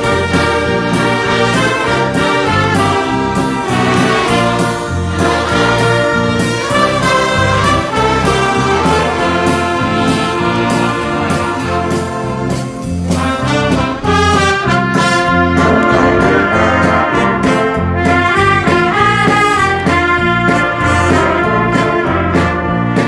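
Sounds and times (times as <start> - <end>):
brass band playing: 0.0 - 23.0
drum and cymbal hits: 0.0 - 23.0
violins: 0.0 - 23.0.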